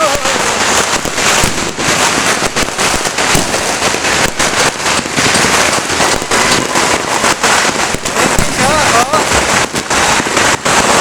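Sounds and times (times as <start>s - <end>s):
firecrackers and fireworks banging: 0.0s - 11.0s.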